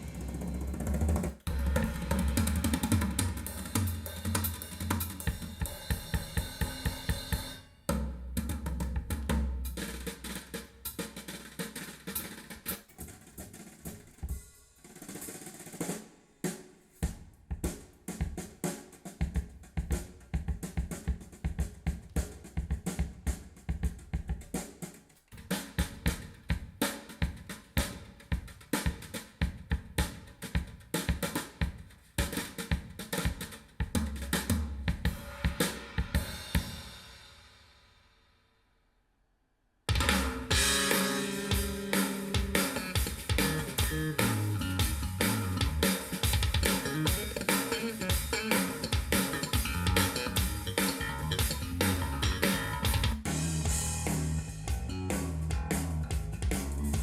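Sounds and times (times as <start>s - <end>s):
drum kit beat through speakers: 0.0s - 38.0s, 39.9s - 57.0s.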